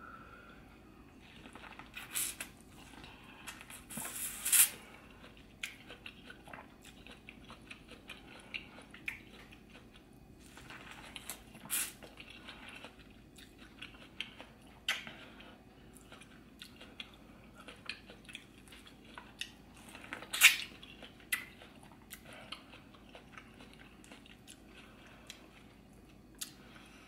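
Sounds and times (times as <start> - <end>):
chewing corn on the cob: 5.0 - 26.9.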